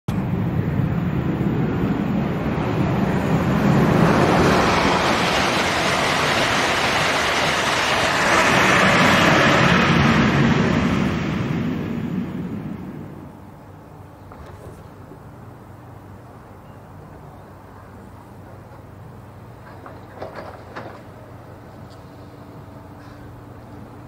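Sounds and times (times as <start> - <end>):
high-speed train passing: 0.1 - 24.0.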